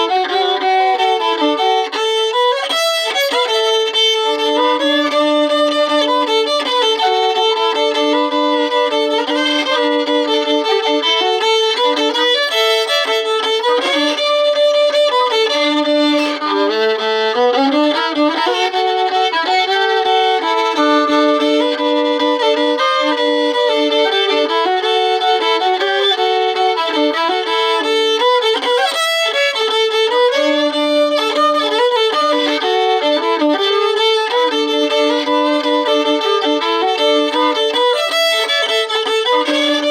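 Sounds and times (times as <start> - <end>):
solo fiddle playing: 0.0 - 39.9.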